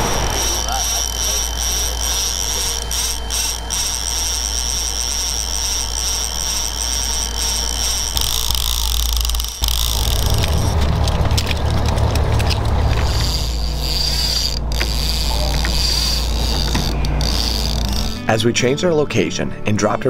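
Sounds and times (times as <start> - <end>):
thin high whine: 0.0 - 18.4
boat engine droning: 0.0 - 18.7.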